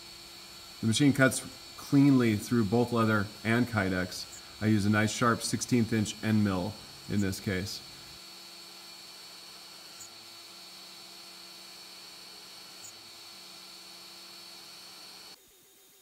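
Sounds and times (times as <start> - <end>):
router spindle humming and whining: 0.0 - 15.4.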